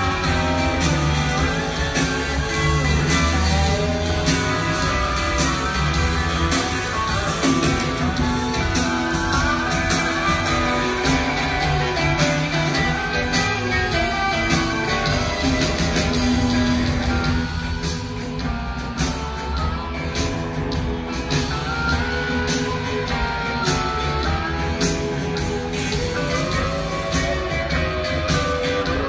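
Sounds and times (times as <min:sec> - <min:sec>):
lead guitar lines: 0:00.0 - 0:29.0
live rock band playing: 0:00.0 - 0:29.0.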